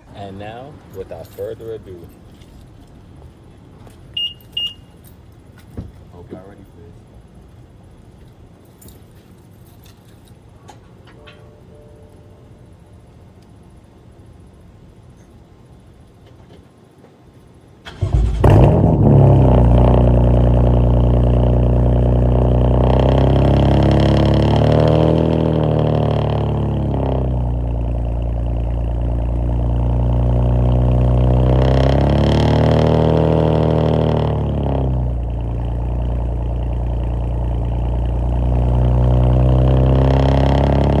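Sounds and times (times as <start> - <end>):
car engine cold start and idling: 0.0 - 41.0.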